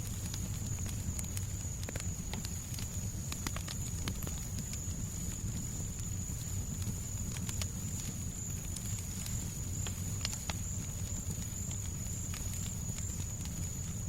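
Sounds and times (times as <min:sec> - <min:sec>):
fireplace crackling and popping: 0:00.0 - 0:14.0.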